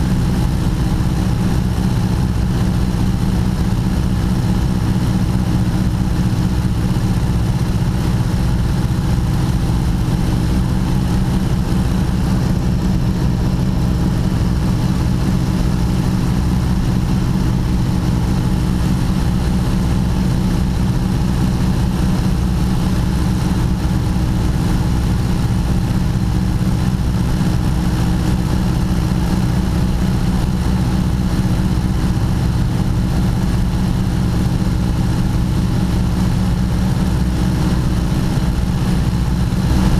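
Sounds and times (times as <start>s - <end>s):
aircraft engines rumbling: 0.0s - 39.9s.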